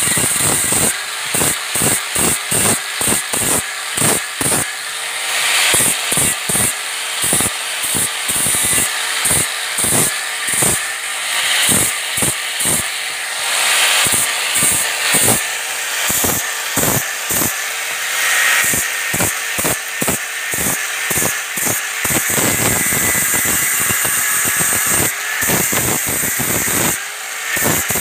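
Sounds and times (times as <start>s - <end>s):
small motor running: 0.0s - 28.0s
tool scraping wood: 0.0s - 28.0s.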